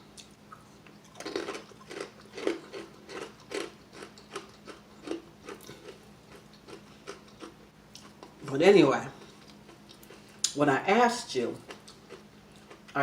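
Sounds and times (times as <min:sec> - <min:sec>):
crunchy chewing: 0:00.1 - 0:08.5, 0:09.1 - 0:10.6, 0:11.6 - 0:13.0.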